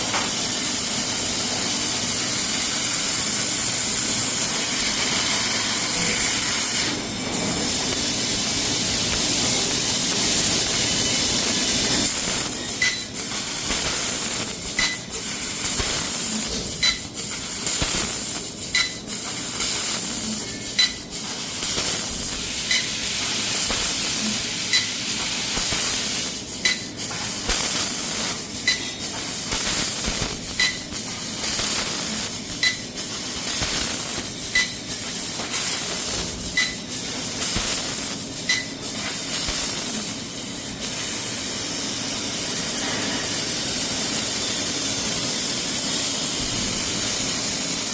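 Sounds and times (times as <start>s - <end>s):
laser cutter gas jet hissing: 0.0s - 47.9s.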